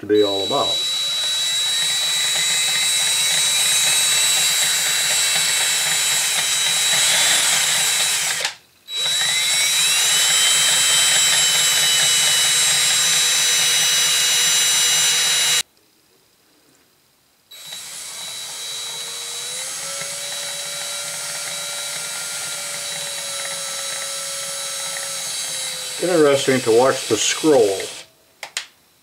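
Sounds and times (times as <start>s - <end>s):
electric drill motor whining: 0.2s - 15.6s, 17.5s - 28.1s.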